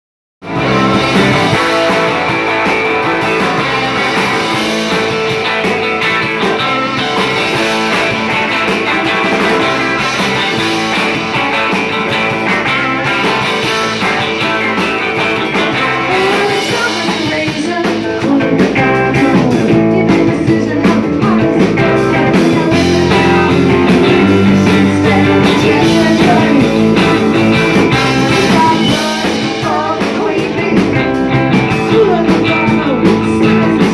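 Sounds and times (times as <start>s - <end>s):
drum kit: 0.4s - 33.9s
electric guitars: 0.4s - 33.9s.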